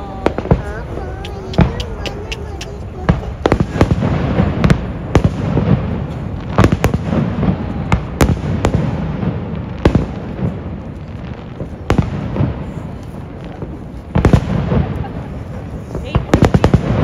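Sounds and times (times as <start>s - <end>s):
fireworks popping and crackling: 0.0s - 17.0s
loud firework bangs: 0.0s - 17.0s.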